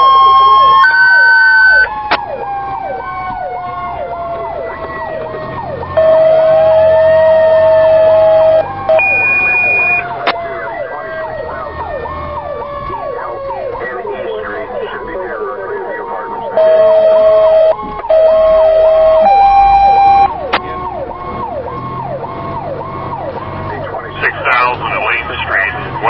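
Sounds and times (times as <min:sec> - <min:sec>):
electronic siren yelping: 0:00.0 - 0:26.0
sliding siren tone: 0:00.0 - 0:26.0.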